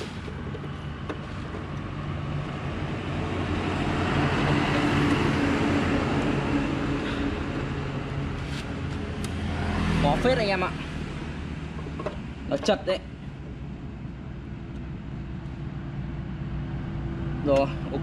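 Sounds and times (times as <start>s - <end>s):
vehicle passing on road: 0.0s - 18.0s.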